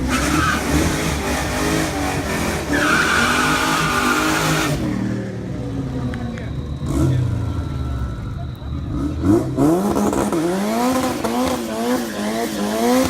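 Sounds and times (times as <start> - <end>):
race car engine at high revs: 0.0 - 13.0
tyres spinning and squealing: 0.0 - 13.0.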